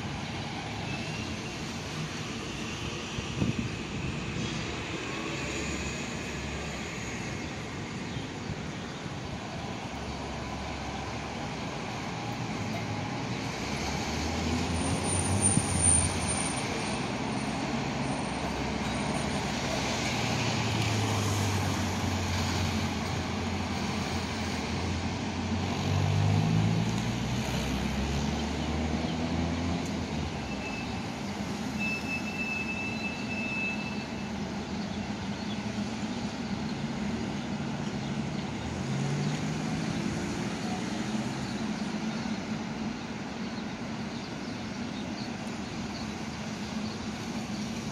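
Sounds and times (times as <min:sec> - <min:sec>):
bus engines: 0:00.0 - 0:47.9
road traffic: 0:00.0 - 0:47.9.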